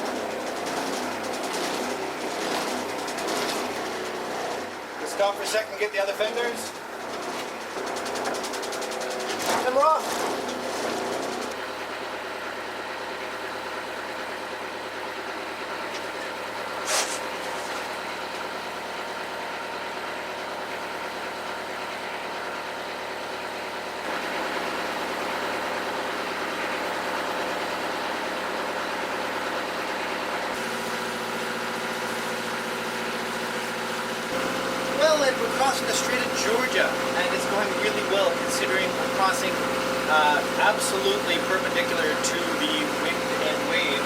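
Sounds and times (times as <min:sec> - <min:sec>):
boat inboard engine running: 0:00.0 - 0:44.0.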